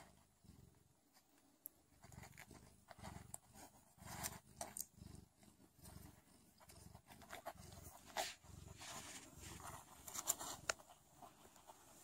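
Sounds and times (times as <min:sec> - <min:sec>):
cat purring softly: 0:00.0 - 0:12.0.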